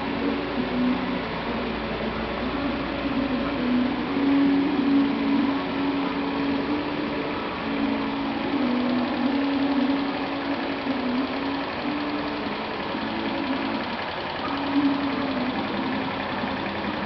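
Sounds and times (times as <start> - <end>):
moped engine idling: 0.0 - 17.0.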